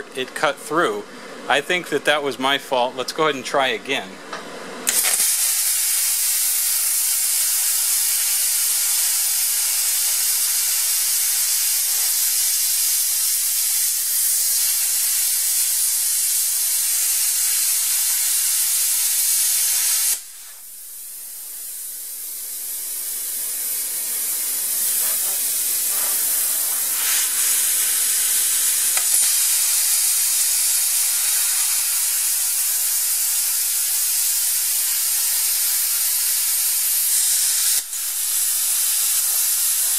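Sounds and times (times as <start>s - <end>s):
plasma cutter hissing: 4.9s - 39.9s.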